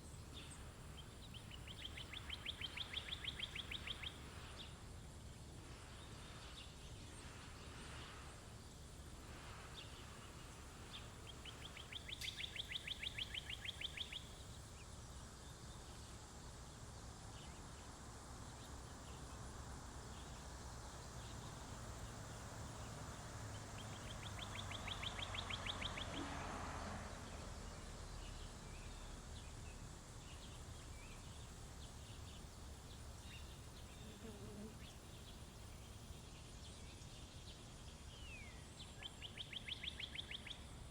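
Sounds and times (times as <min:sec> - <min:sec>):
songbirds chirping: 0:00.0 - 0:40.9
steady low hiss: 0:00.0 - 0:40.9.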